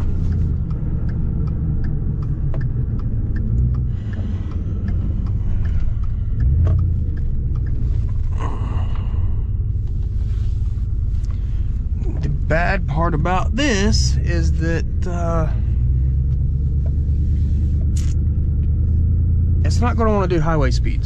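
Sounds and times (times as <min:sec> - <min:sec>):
engine and road rumble: 0:00.0 - 0:21.0
turn signal ticking: 0:00.0 - 0:21.0.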